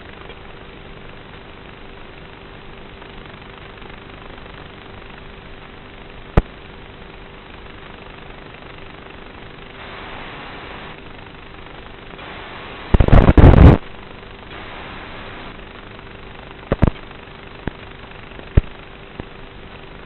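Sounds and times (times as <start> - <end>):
faint hum: 0.0 - 20.0
static hiss: 0.0 - 20.0
crackling burst of static: 1.6 - 20.0.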